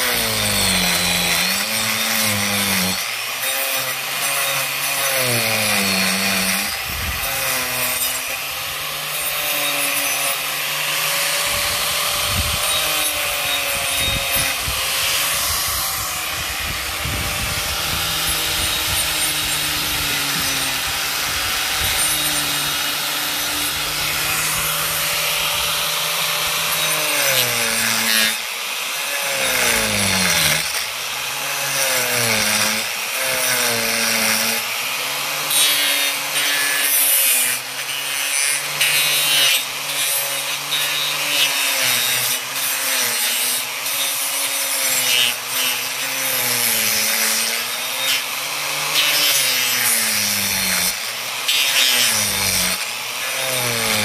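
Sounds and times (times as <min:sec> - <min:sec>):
angle grinder whining: 0:00.0 - 0:54.0
wood being ground: 0:00.0 - 0:54.0.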